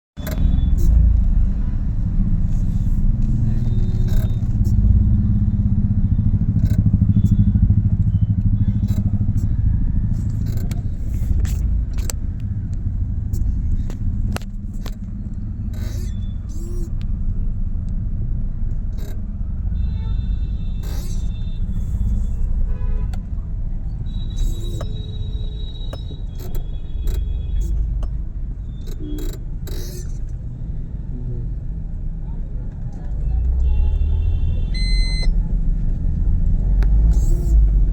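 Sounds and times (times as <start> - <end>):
vehicle engine rumble: 0.2 - 37.9.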